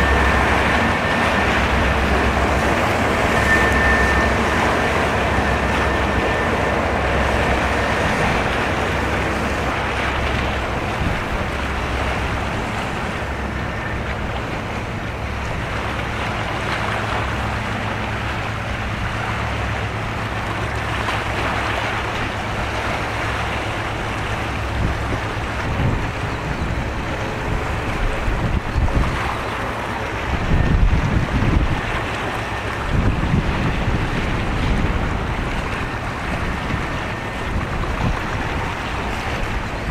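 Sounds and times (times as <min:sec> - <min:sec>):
bow wave and wake rushing: 0:00.0 - 0:39.9
ship engine drone: 0:00.0 - 0:39.9
wind on microphone: 0:00.0 - 0:39.9.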